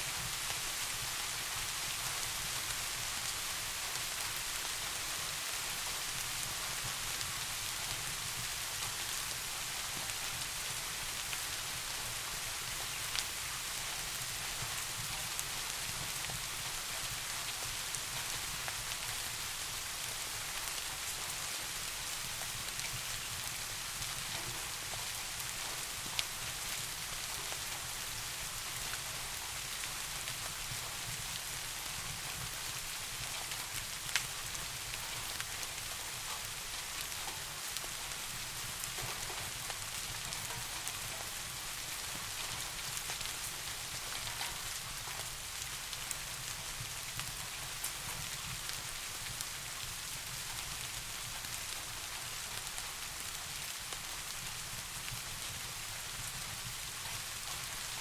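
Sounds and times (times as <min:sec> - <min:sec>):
soft rain hissing: 0:00.0 - 0:58.0.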